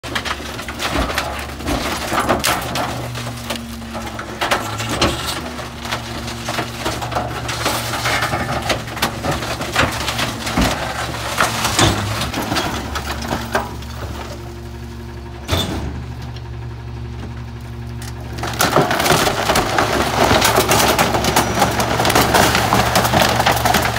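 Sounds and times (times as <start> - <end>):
wood cracking and splintering: 0.0 - 14.8, 17.9 - 23.9
truck engine and hydraulics: 0.1 - 23.9.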